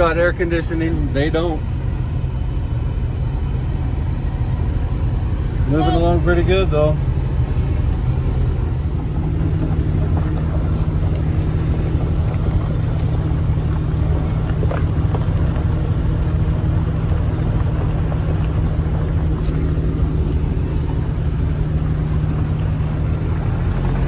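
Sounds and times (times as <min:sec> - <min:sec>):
engine and road drone in cabin: 0:00.0 - 0:24.0.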